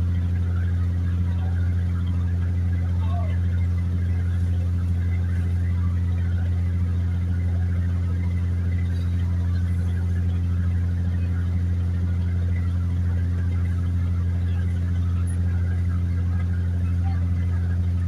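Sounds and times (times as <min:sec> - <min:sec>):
motor humming steadily: 0:00.0 - 0:18.0.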